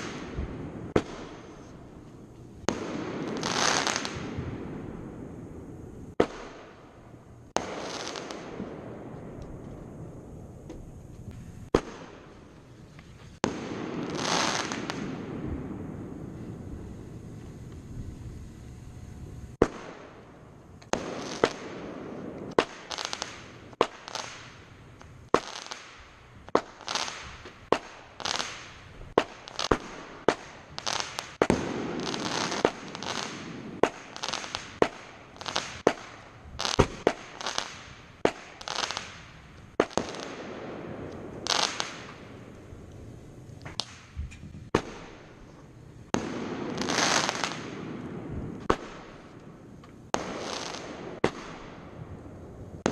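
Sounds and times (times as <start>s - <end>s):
fireworks booming: 0.0s - 52.9s
fireworks crackling: 0.0s - 52.9s.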